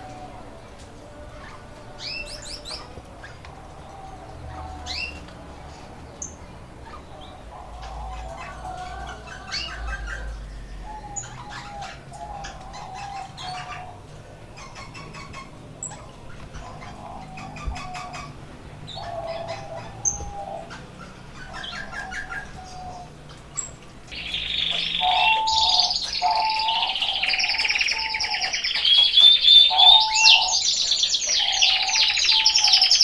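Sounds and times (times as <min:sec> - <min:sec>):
canaries chirping and trilling: 0:00.0 - 0:33.0.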